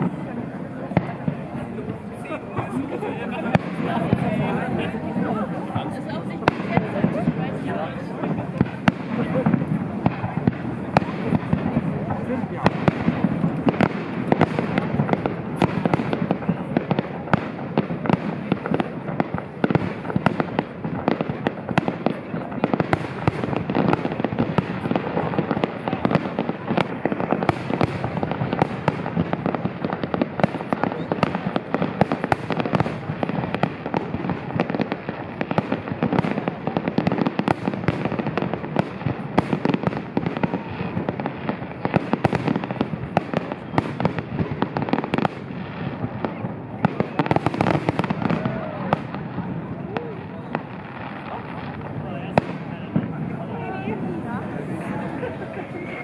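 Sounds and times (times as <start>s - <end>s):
firework crackling: 0.0s - 56.0s.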